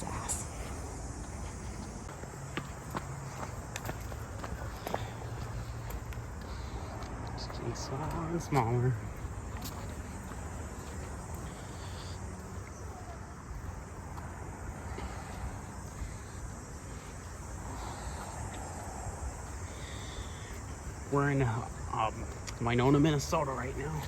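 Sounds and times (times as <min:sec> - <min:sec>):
insects chirping faintly: 0:00.0 - 0:24.0
steady low rumble: 0:00.0 - 0:24.0.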